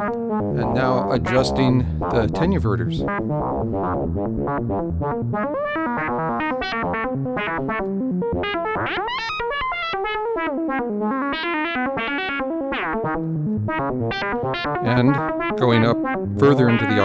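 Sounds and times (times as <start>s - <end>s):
synthesizer random stepped notes: 0.0s - 17.0s.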